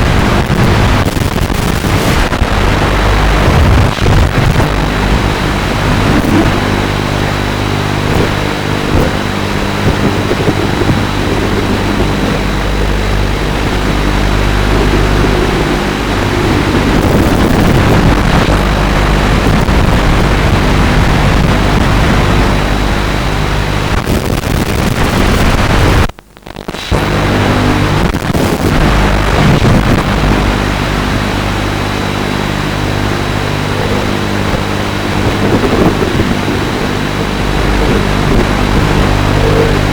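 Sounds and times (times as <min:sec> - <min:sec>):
drone motors whirring: 0:00.0 - 0:23.7, 0:28.8 - 0:39.9
rushing wind noise: 0:00.0 - 0:26.1, 0:26.9 - 0:39.9.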